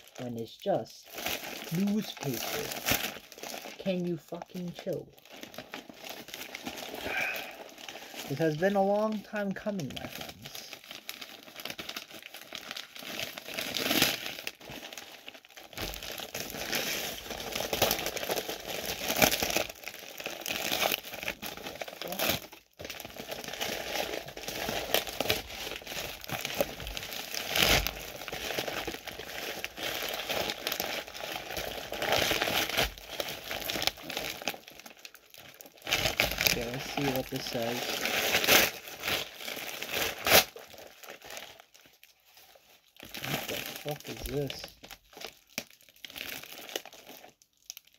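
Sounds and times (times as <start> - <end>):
newspaper crumpling and rustling: 0.0 - 47.9.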